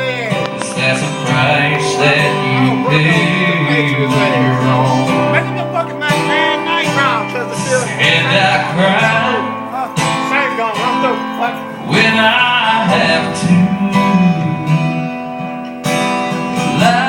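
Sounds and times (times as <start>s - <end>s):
guitar sliding bending notes: 0.0s - 17.0s
live country band playing: 0.0s - 17.0s.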